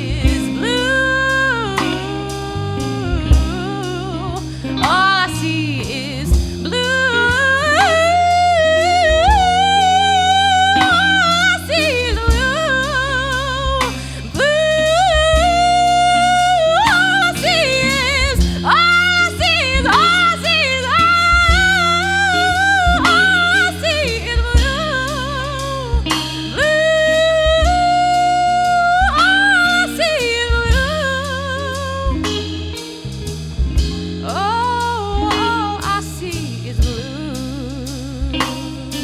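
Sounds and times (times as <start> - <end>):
woman singing with vibrato: 0.0 - 33.0, 33.7 - 39.0
drum kit: 0.0 - 39.0
electric bass: 0.0 - 39.0
electric guitar: 0.0 - 39.0.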